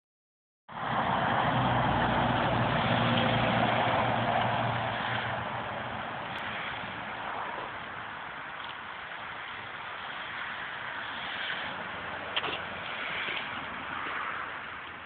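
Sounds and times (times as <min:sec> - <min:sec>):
vehicle passing on road: 0:00.7 - 0:15.0.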